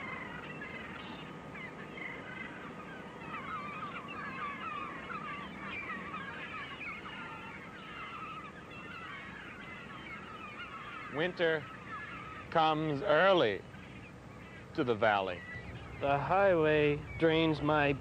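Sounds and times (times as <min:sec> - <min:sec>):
many birds chirping: 0:00.0 - 0:18.0.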